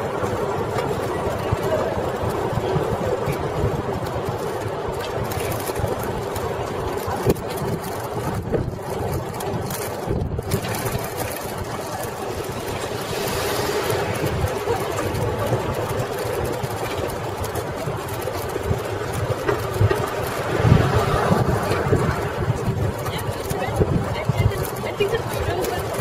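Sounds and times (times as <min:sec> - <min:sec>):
road rumble: 0:00.0 - 0:26.0
wind on microphone: 0:00.0 - 0:26.0.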